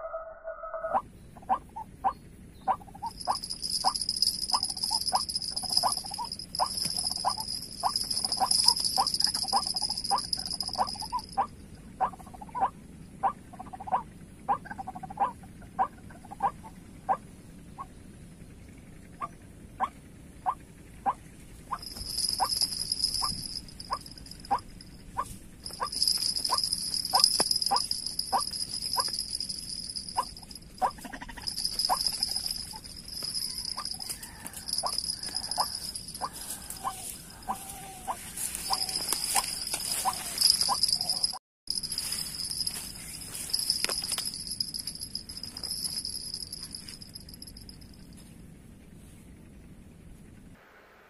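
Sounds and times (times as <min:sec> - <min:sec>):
insects droning: 0:01.0 - 0:50.4.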